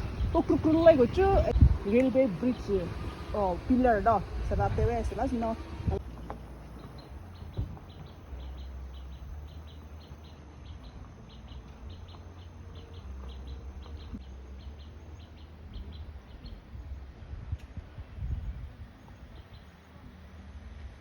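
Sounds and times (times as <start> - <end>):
small bird chirping: 0.0 - 17.0
low steady rumble: 0.0 - 21.0.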